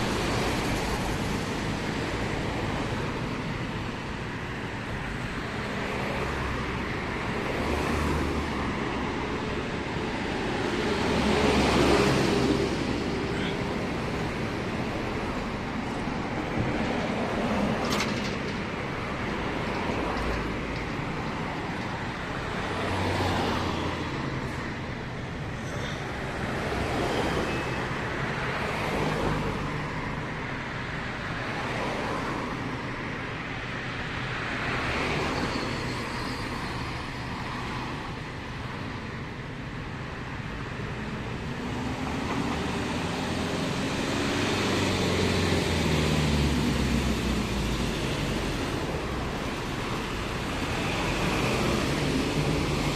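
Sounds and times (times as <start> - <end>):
cars passing: 0.0 - 52.9.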